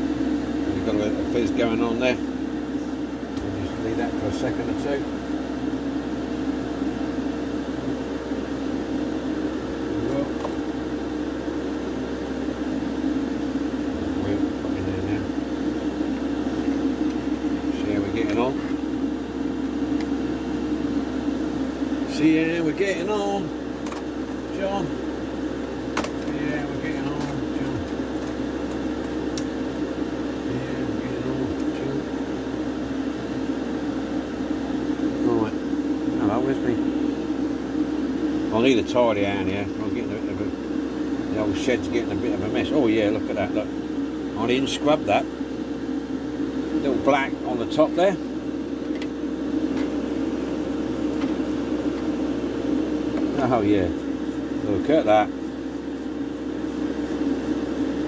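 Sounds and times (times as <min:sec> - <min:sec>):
extraction fan humming: 0:00.0 - 0:58.0.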